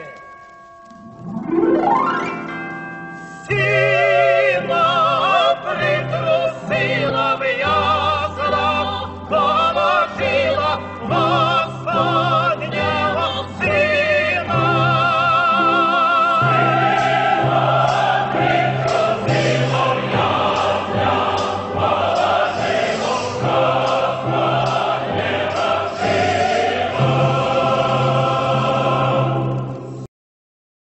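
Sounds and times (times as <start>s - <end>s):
choir singing sustained chords: 3.4s - 30.1s.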